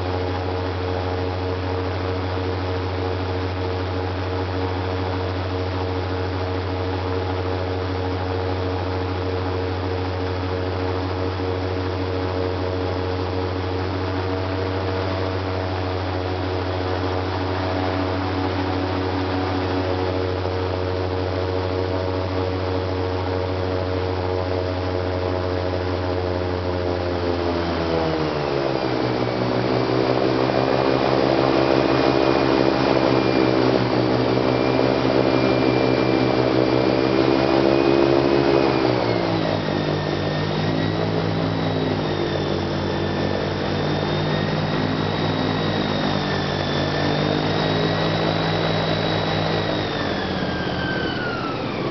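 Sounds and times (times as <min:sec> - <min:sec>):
airboat engine and propeller drone: 0:00.0 - 0:51.9.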